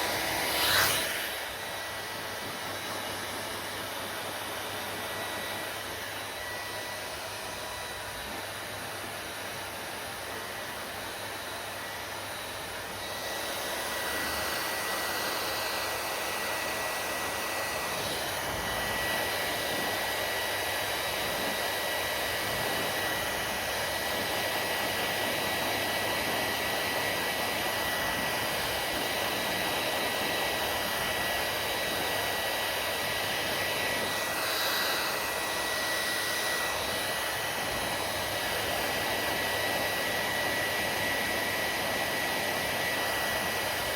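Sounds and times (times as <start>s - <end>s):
hair dryer blowing air: 0.0s - 43.9s.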